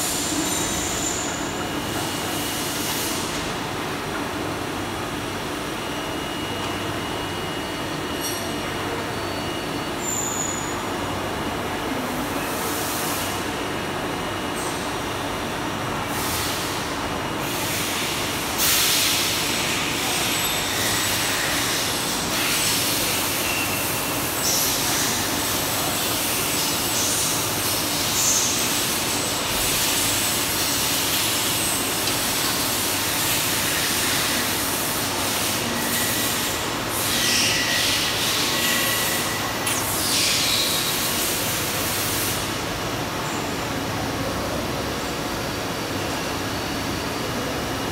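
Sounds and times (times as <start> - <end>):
factory machinery running: 0.0 - 47.9.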